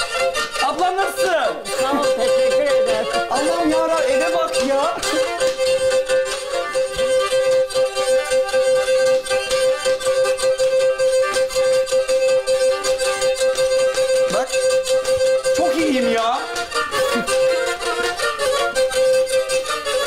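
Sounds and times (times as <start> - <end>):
bowed fiddle folk dance tune: 0.0 - 20.0.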